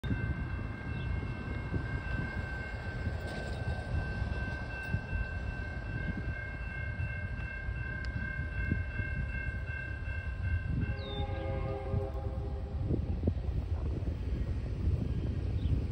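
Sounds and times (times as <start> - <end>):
railroad crossing bell ringing: 0.0 - 13.3
wind rumbling on microphone: 0.0 - 15.9.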